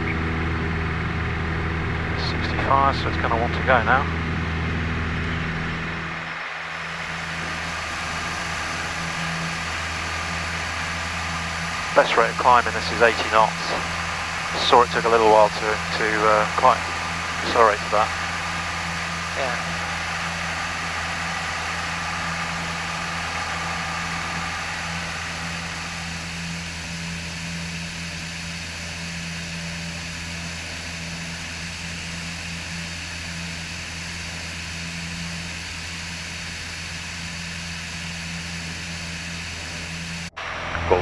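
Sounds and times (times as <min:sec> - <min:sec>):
propeller plane engine droning: 0:00.0 - 0:41.0.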